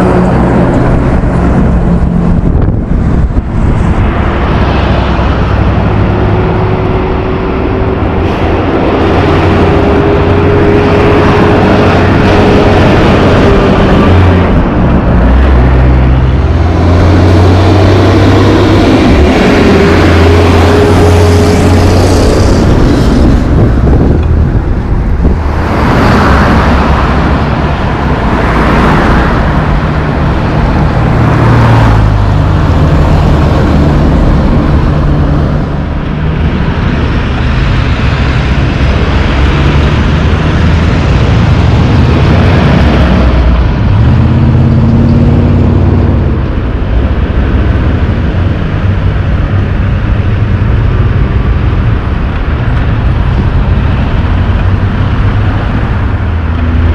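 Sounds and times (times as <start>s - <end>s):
diesel trucks engine: 0.0s - 56.9s
tyre and traffic noise: 0.0s - 56.9s.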